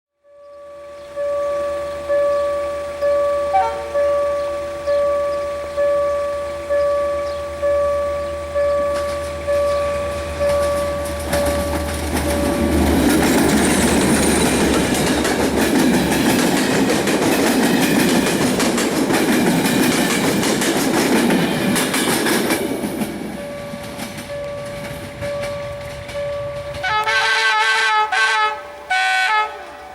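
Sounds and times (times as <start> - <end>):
station signal bell ringing: 0.2 - 29.9
train passing: 0.2 - 29.9.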